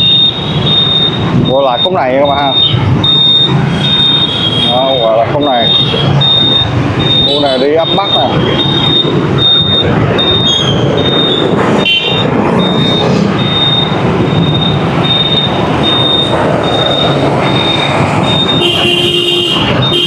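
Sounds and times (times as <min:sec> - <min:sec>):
heavy city traffic: 0:00.0 - 0:20.0
short high beeps: 0:00.0 - 0:20.0.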